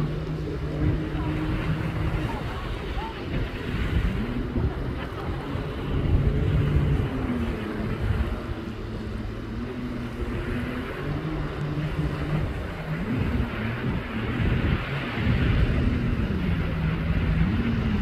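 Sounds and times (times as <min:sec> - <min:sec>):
motorboat engine droning: 0:00.0 - 0:18.0
wind and water hiss: 0:00.0 - 0:18.0.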